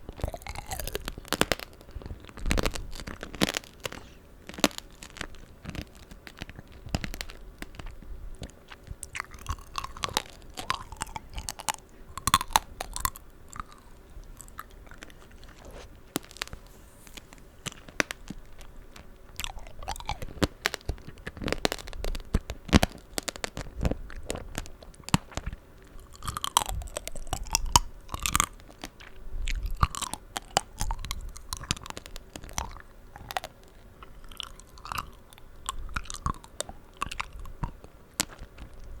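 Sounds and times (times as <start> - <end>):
candy shell crunching in chewing: 0.0 - 39.0
wet juicy chewing sounds: 0.0 - 39.0.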